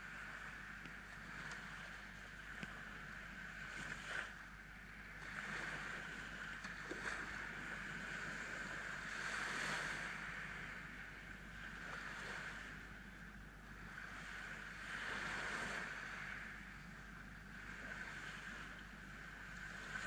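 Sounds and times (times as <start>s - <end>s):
waves washing up beach: 0.0s - 20.0s.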